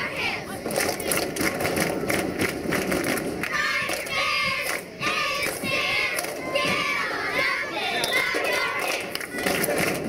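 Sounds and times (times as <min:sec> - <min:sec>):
crowd shouting and cheering: 0:00.0 - 0:10.0.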